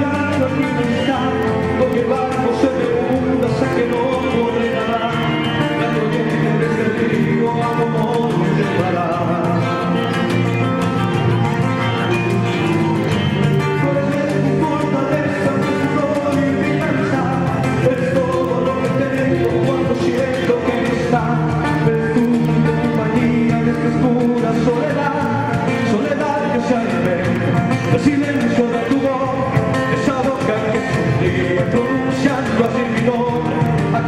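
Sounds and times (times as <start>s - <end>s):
song with singing and beat: 0.0s - 34.0s.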